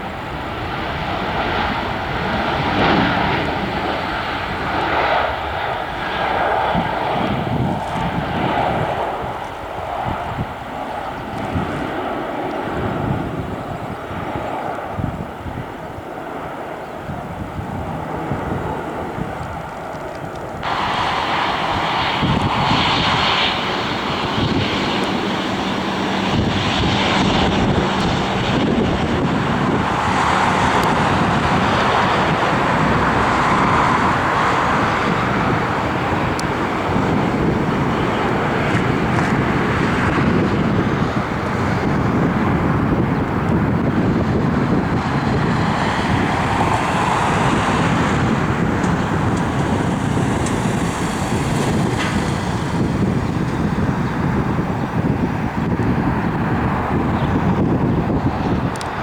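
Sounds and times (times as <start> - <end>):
airliner engines roaring: 0.0 - 59.0.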